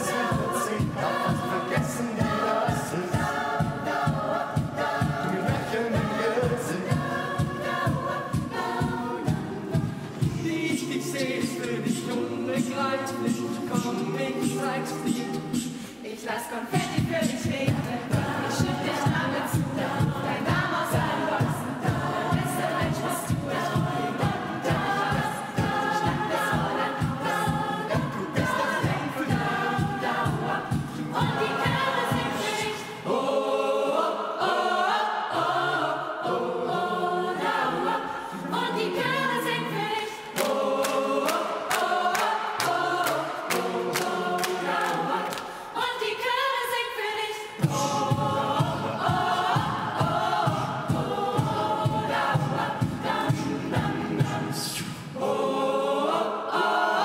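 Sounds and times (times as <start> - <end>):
choir singing with accompaniment: 0.0 - 57.0.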